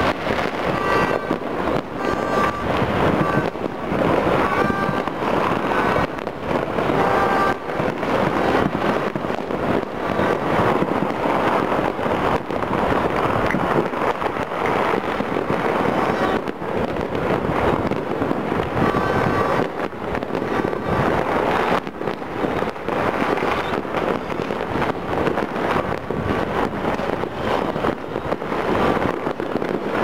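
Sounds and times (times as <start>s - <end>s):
distant fireworks crackling: 0.0s - 30.0s.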